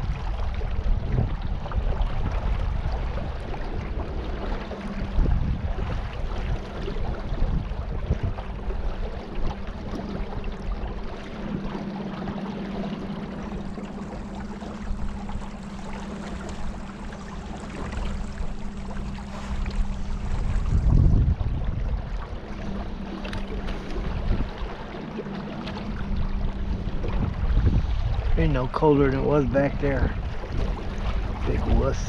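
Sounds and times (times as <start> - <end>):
boat motor humming: 0.0 - 32.0
water rushing against hull: 0.0 - 32.0
wind buffeting microphone: 0.0 - 32.0.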